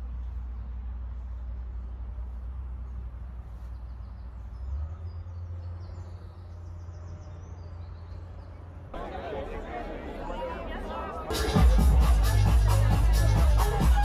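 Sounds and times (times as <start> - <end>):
steady low rumble: 0.0 - 9.0, 11.3 - 14.0.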